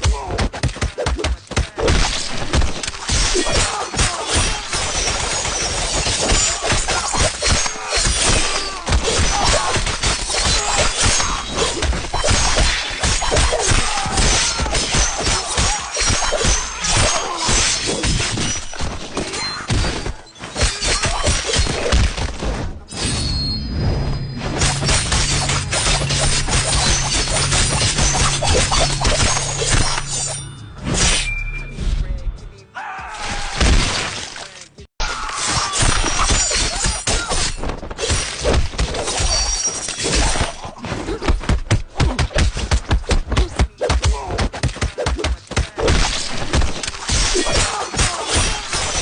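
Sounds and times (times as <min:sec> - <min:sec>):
crashes and shattering: 0:01.7 - 0:31.3, 0:33.2 - 0:40.8, 0:44.6 - 0:49.0.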